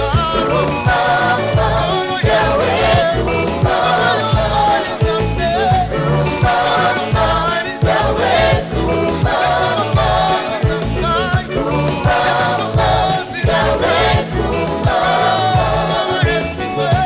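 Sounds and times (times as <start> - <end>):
band with bass and drums: 0.0 - 17.0
lead singer and choir singing: 0.0 - 17.0.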